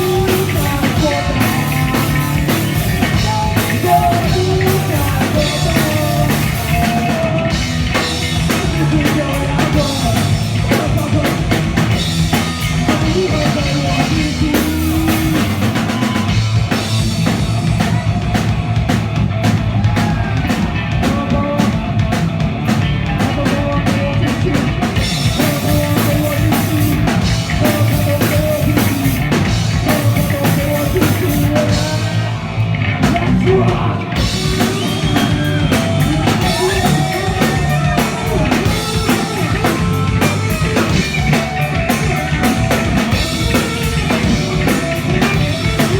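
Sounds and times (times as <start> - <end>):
bass guitar: 0.0 - 45.9
distorted electric guitar: 0.0 - 45.9
drum kit: 0.0 - 45.9
person shouting singing: 0.0 - 45.9.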